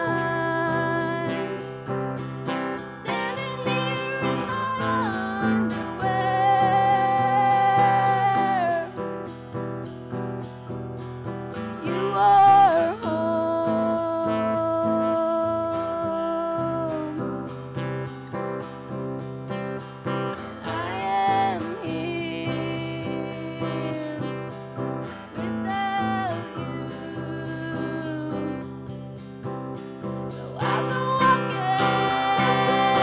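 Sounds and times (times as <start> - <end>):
acoustic guitar strumming: 0.0 - 33.0
woman singing: 0.0 - 33.0.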